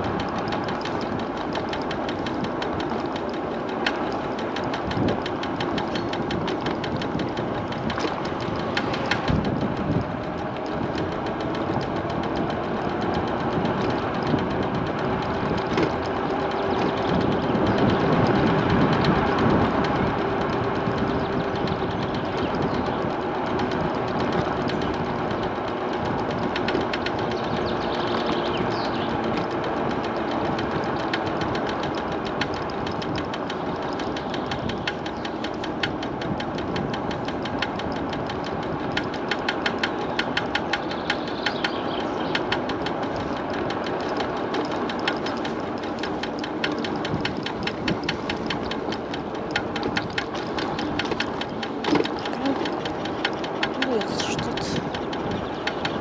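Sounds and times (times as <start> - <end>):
rapid knocking from wheel: 0.0 - 56.0
road and wind noise: 0.0 - 56.0.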